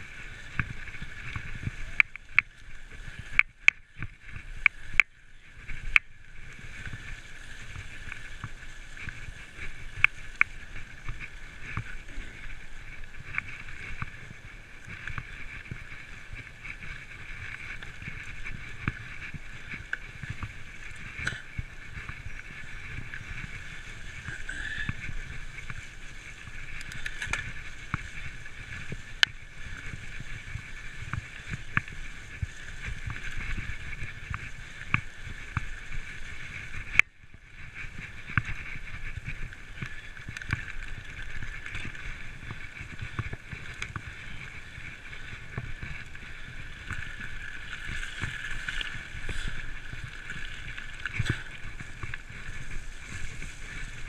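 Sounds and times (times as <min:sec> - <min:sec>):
bike tyres and frame rattling: 0:00.0 - 0:54.0
wind on microphone: 0:00.0 - 0:54.0.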